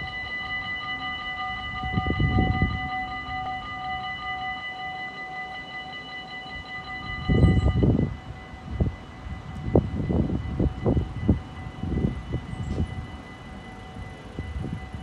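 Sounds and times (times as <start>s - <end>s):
level crossing bell ringing: 0.0s - 15.0s.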